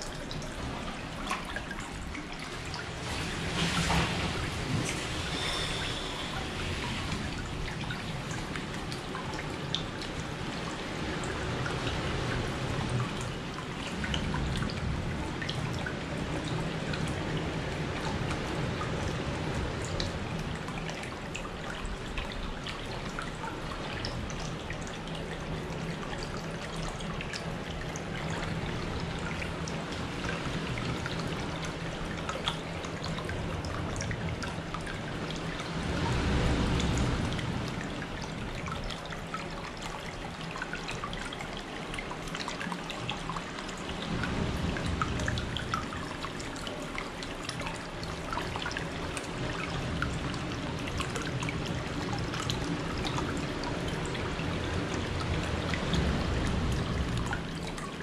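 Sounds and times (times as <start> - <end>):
water drips and plops: 0.0 - 58.0.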